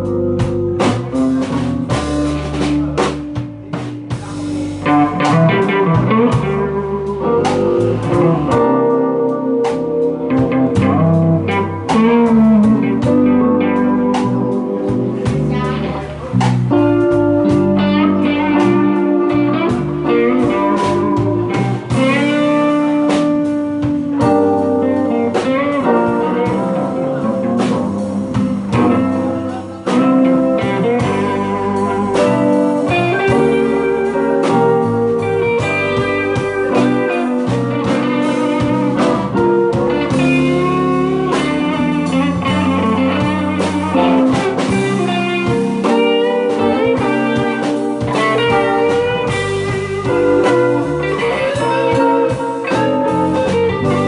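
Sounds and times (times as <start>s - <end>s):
bass: 0.0s - 54.0s
blues guitar with bending notes: 0.0s - 54.0s
steady drum beat: 0.0s - 54.0s.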